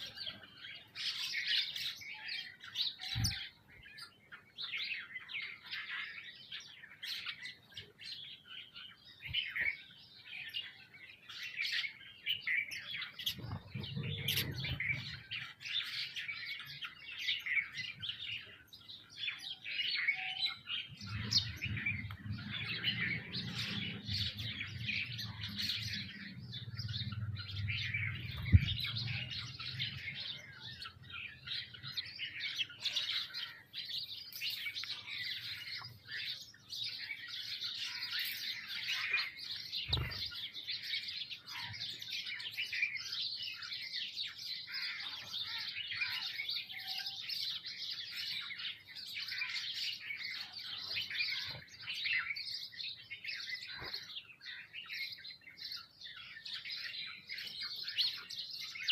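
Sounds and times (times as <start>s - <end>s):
sparrows and mynas chirping: 0.0s - 58.9s.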